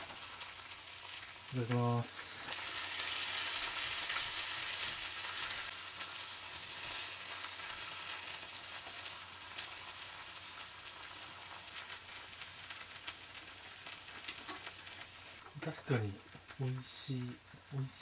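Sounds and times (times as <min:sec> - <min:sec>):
steak sizzling in hot oil: 0:00.0 - 0:17.8.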